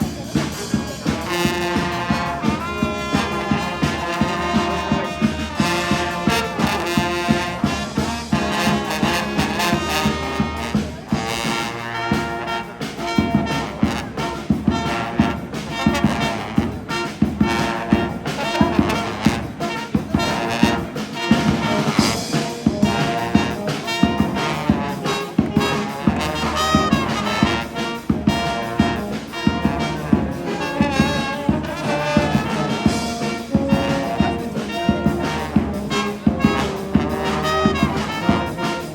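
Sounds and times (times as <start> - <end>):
brass band playing jazz: 0.0 - 38.9.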